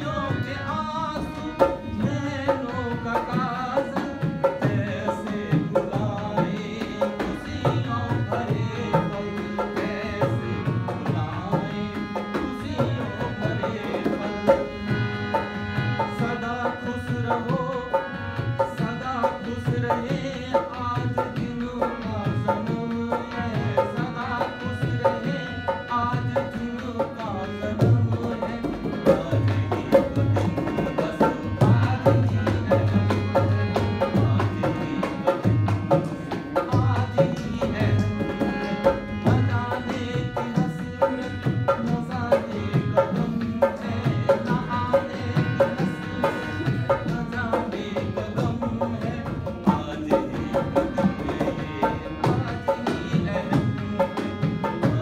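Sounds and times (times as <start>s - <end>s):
harmonium chords: 0.0s - 55.0s
man singing: 0.0s - 55.0s
hand drum rhythm: 1.1s - 16.4s, 17.0s - 55.0s.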